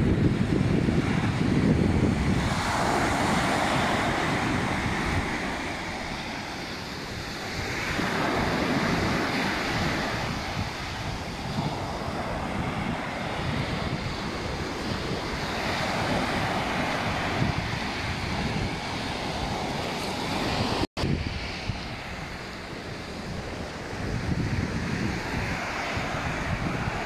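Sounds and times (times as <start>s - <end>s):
sea surf washing onto beach: 0.0s - 27.0s
wind rumbling on microphone: 0.0s - 27.0s.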